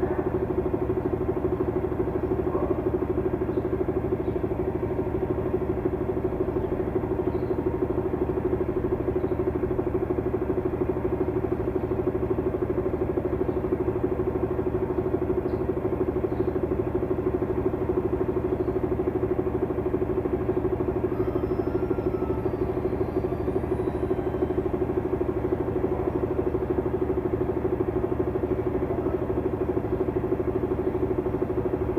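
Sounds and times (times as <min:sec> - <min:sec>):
washing machine spinning: 0:00.0 - 0:31.9.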